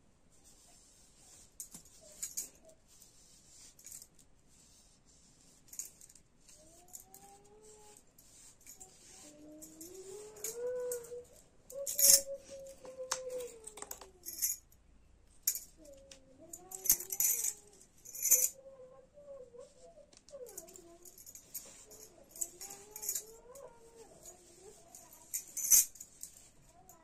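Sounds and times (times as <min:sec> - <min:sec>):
bangles jingling and clinking: 0:01.2 - 0:04.2, 0:05.6 - 0:14.8, 0:15.4 - 0:18.6, 0:20.4 - 0:27.0.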